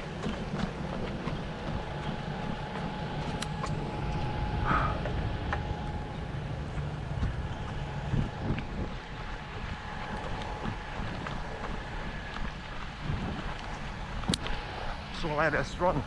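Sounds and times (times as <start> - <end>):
faint steady whine: 0.0 - 16.0
road traffic rumble: 0.0 - 16.0.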